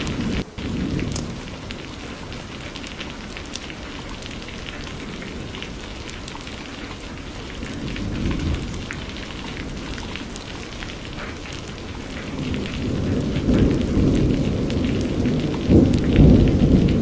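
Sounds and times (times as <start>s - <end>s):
rain drops ticking: 0.0s - 17.0s
thunder rumbling: 0.0s - 17.0s.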